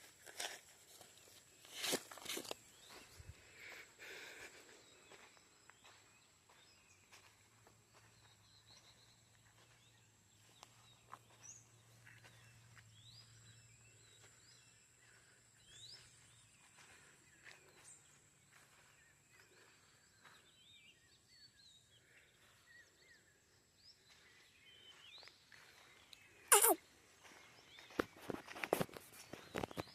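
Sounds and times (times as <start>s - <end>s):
faint bird chirps: 2.0s - 29.9s.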